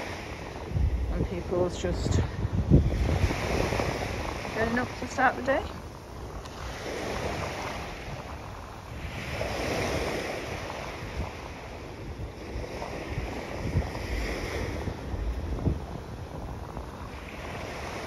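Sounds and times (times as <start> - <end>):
waves washing onto beach: 0.0 - 18.0
wind rumbling on microphone: 0.0 - 18.0.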